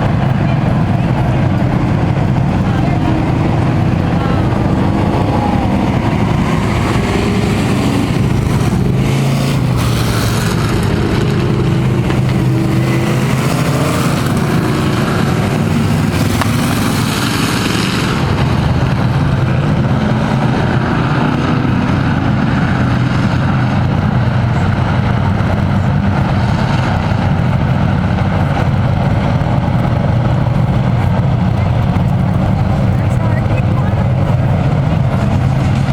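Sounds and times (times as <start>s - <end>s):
race truck engines running: 0.0s - 35.9s.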